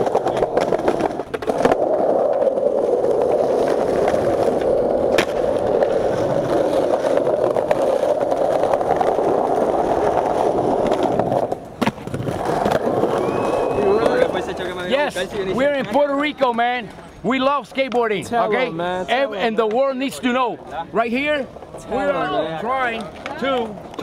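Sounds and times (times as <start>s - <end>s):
skateboard clack: 0.0s - 17.0s, 19.4s - 20.3s, 21.5s - 24.0s
skateboard wheels rolling on paving: 0.0s - 24.0s.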